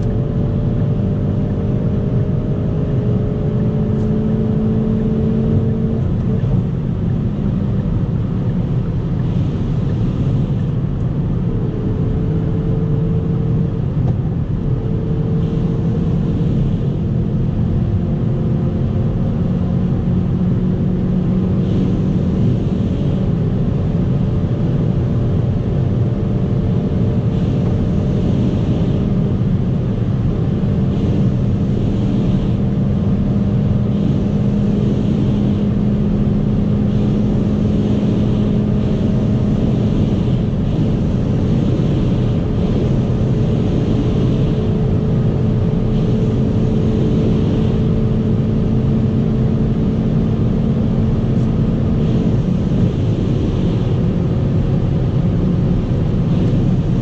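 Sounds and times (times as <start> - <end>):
wind noise: 0.0 - 57.0.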